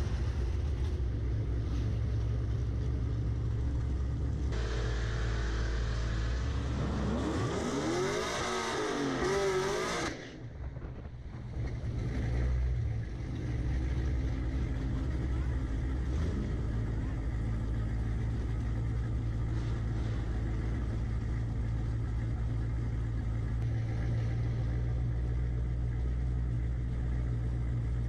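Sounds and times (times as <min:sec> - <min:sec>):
car engine idling and accelerating: 0:00.0 - 0:28.0.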